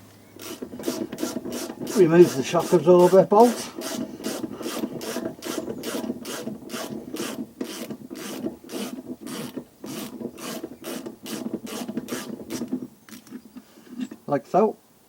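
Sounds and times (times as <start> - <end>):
hand ratchet clicking: 0.4 - 13.3.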